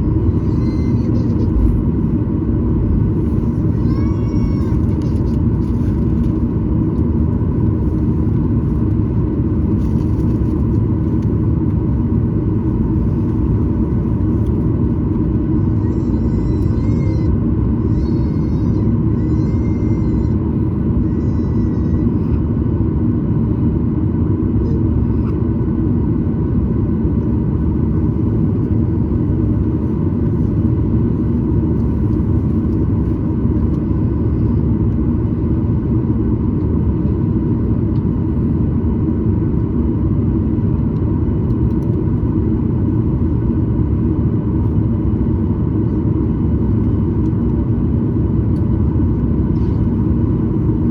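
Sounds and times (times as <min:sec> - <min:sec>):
jet engines rumbling in cabin: 0:00.0 - 0:50.9.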